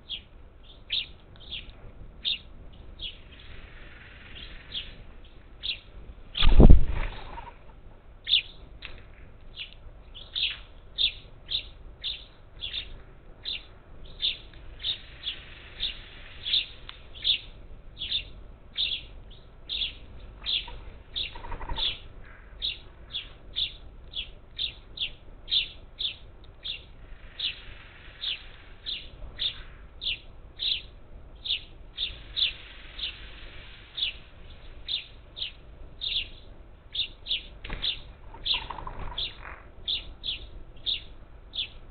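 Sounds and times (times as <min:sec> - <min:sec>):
parakeets calling: 0:00.0 - 0:08.7, 0:09.5 - 0:41.9.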